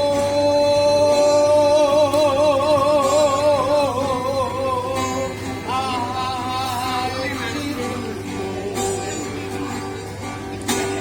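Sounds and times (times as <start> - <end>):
man singing: 0.0 - 9.8.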